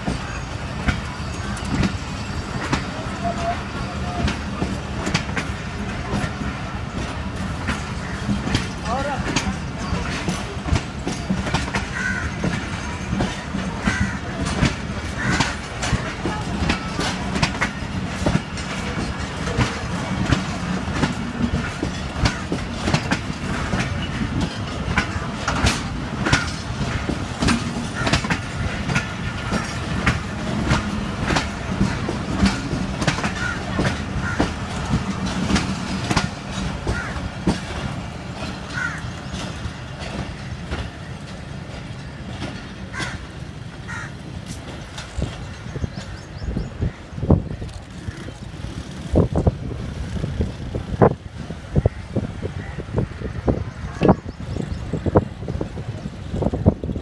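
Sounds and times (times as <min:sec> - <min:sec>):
low train rumble: 0:00.0 - 0:57.0
wheels clacking over rail joints: 0:00.0 - 0:57.0.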